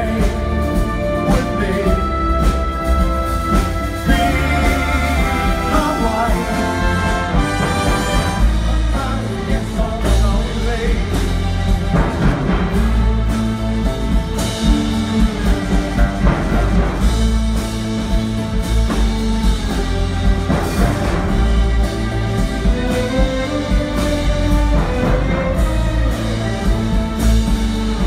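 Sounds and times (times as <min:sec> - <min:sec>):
heavy bass: 0:00.0 - 0:28.0
orchestra playing rock arrangement: 0:00.0 - 0:28.0.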